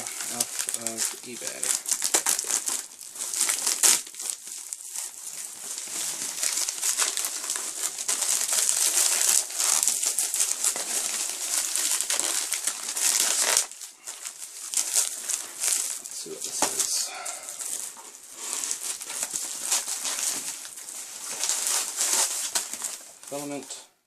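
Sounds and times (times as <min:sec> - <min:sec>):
packaging crinkling and rustling: 0:00.0 - 0:23.7.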